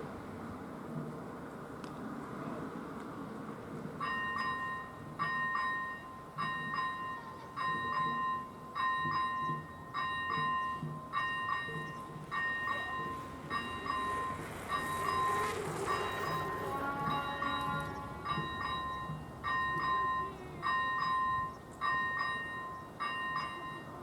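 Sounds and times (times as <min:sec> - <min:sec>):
level crossing warning bell: 0:03.9 - 0:24.0.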